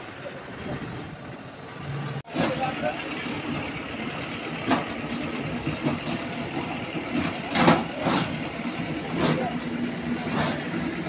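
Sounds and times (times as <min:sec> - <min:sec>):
roller machine droning: 0:00.0 - 0:11.0.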